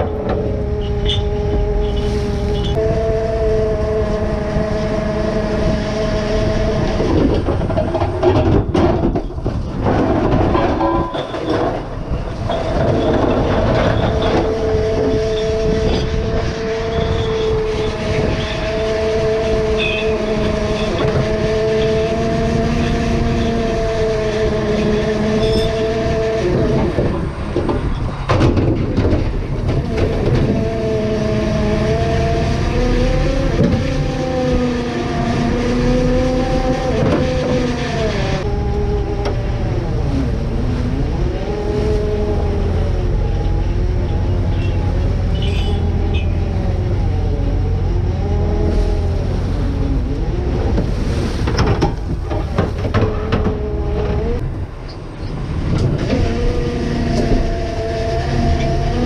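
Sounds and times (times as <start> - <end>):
boat engine droning whine: 0.0 - 59.0
boat rushing through sea: 0.0 - 59.0.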